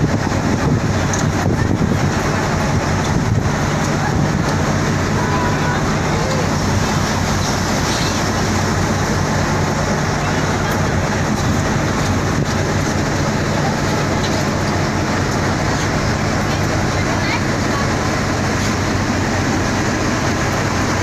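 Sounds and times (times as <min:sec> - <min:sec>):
boat engine droning: 0:00.0 - 0:21.0
wind and water rushing: 0:00.0 - 0:21.0.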